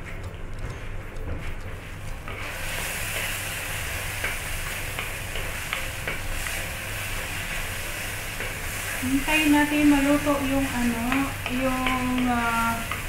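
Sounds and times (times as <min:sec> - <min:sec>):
food sizzling in oil: 0:02.3 - 0:13.0.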